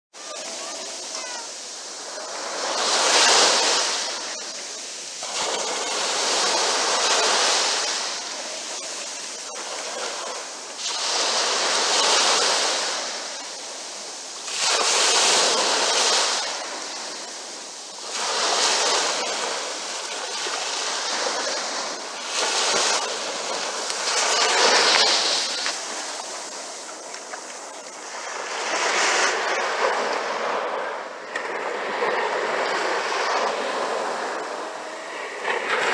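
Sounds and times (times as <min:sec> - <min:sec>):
small waves breaking on shore: 0:00.1 - 0:35.9.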